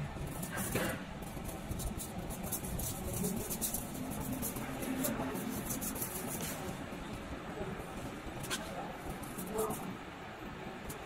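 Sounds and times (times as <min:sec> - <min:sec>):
low workshop hum: 0:00.0 - 0:11.0.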